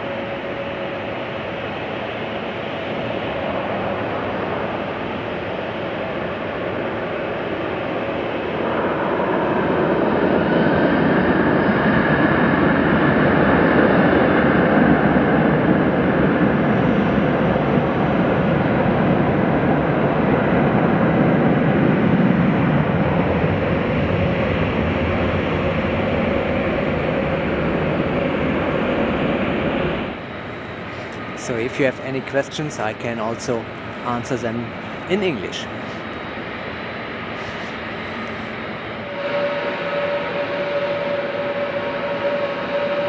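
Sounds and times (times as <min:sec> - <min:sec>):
jet engines spooling up: 0:00.0 - 0:43.0.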